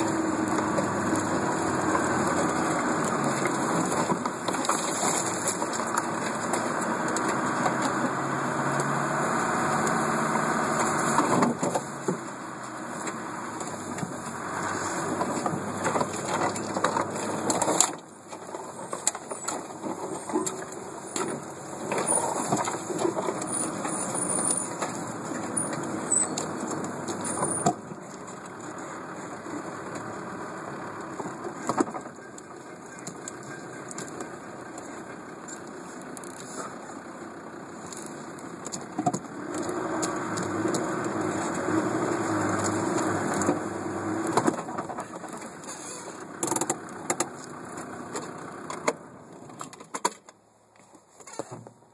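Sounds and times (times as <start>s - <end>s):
engine working under load: 0.0s - 50.3s.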